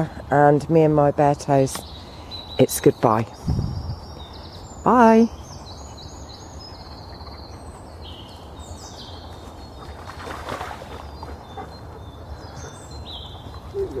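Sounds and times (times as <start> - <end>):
songbirds trilling: 0.0 - 14.0.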